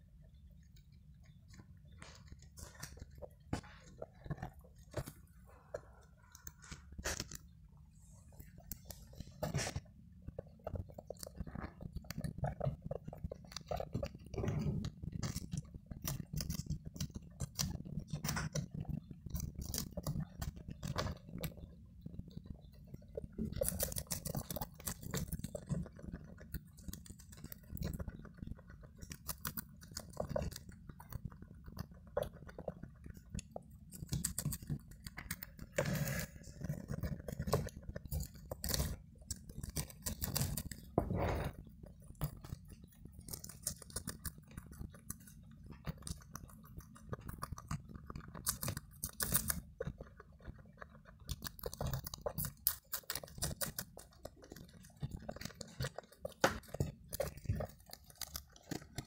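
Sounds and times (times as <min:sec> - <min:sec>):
guinea pigs chewing lettuce: 0:00.0 - 0:59.0.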